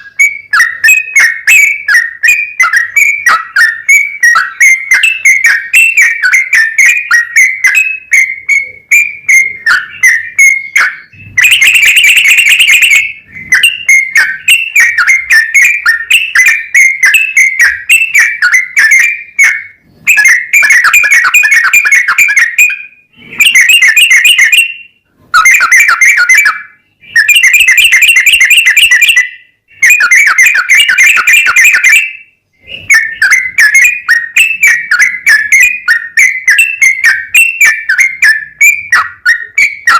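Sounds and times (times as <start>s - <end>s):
bird singing bubbling whistles: 0.0s - 39.9s.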